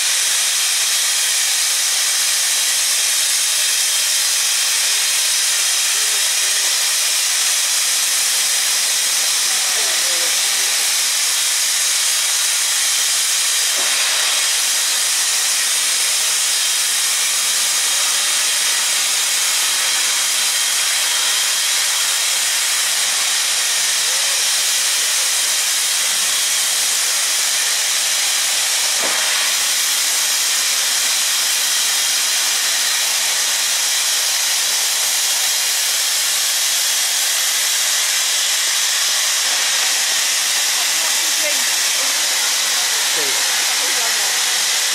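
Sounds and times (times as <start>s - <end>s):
steam locomotive hissing: 0.0s - 44.9s.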